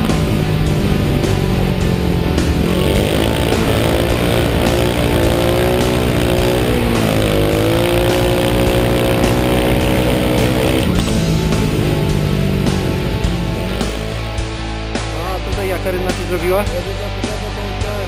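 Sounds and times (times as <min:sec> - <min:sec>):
motorcycle engine at speed: 0:00.0 - 0:15.2.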